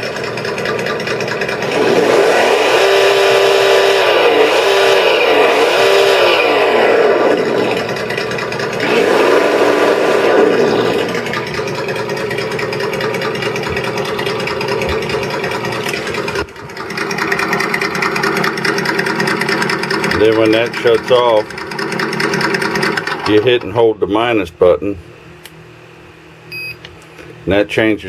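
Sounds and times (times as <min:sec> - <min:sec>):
simulated engine sound from speaker: 0:00.0 - 0:25.2.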